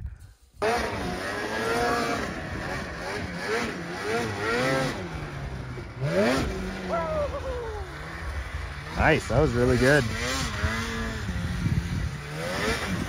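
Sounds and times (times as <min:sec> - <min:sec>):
snowmobile engine revving: 0:00.6 - 0:13.0.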